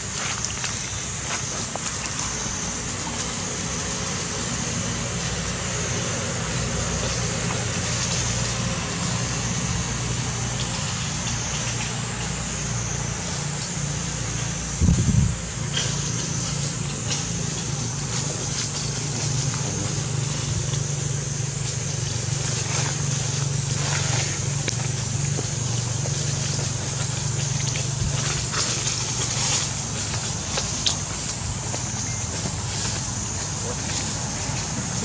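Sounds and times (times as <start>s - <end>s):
constant high hiss: 0.0s - 35.0s
low motor-like hum: 0.0s - 35.0s.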